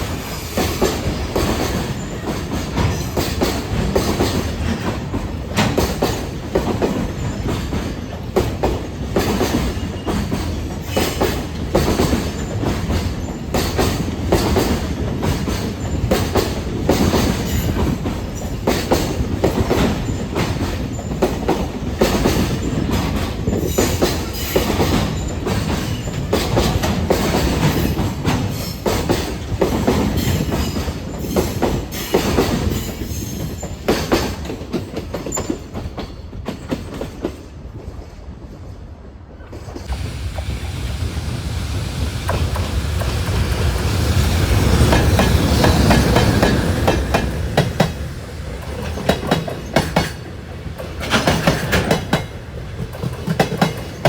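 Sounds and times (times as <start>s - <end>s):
train rolling rumble: 0.0s - 54.0s
train wheels clicking over rail joints: 0.0s - 54.0s.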